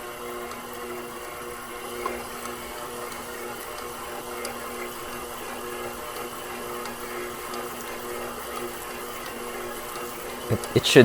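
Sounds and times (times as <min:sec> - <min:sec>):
stand mixer motor humming: 0:00.0 - 0:10.4.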